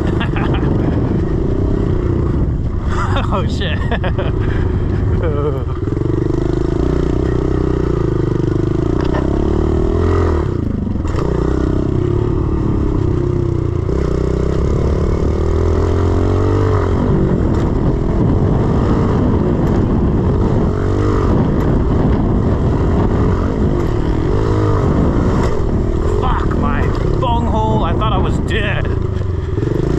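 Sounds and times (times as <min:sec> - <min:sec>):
motorbike engine revving: 0:00.0 - 0:29.9.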